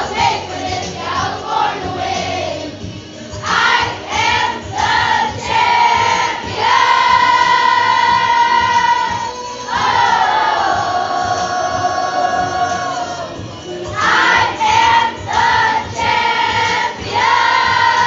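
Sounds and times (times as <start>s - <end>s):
children singing pop song: 0.0s - 18.0s
recorded backing music: 0.0s - 18.0s.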